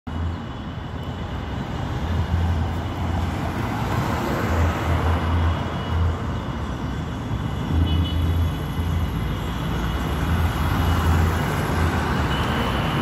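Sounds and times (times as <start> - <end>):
passing vehicles: 0.1 - 13.0.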